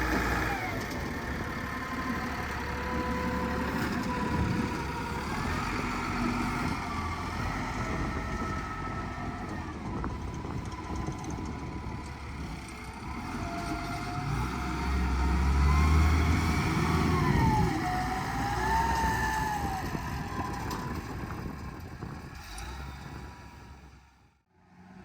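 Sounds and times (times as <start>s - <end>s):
heavy machine engine revving: 0.0s - 24.1s.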